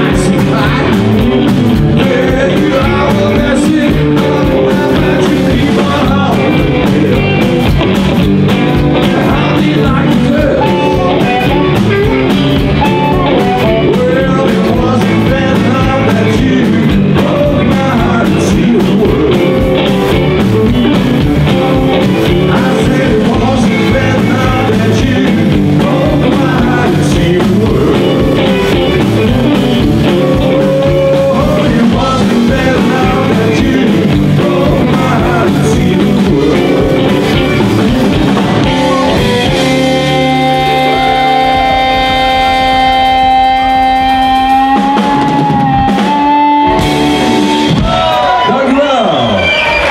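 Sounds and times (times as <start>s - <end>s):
man singing: 0.0s - 7.8s, 8.4s - 20.5s, 21.4s - 47.7s
upright double bass: 0.0s - 48.4s
drum kit beat: 0.0s - 49.0s
electric guitars: 0.0s - 49.9s.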